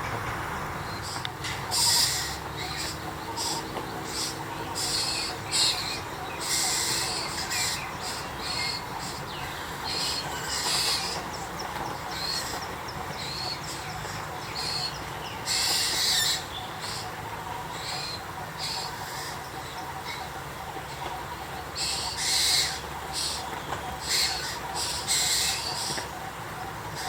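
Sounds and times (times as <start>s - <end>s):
birds giving harsh high calls: 0.8s - 27.0s.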